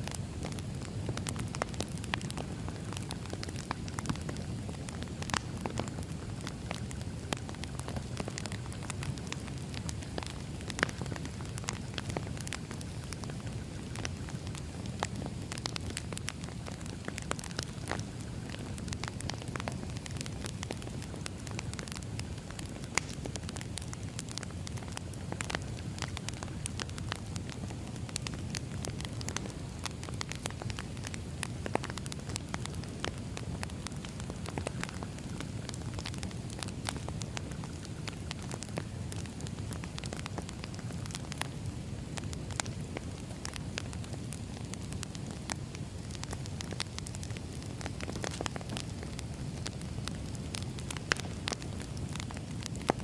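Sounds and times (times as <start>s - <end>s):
fire crackling and popping: 0.0s - 53.0s
wood fire rumbling: 0.0s - 53.0s.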